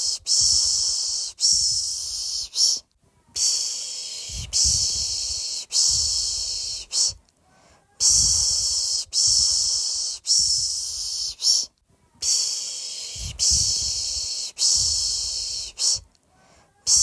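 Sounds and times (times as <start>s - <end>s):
person shushing: 0.0s - 7.2s, 7.8s - 17.0s.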